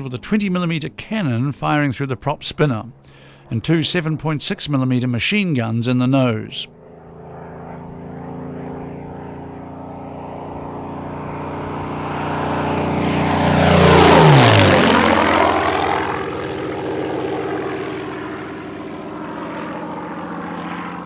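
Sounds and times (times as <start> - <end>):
propeller aircraft flying past: 0.0 - 21.0.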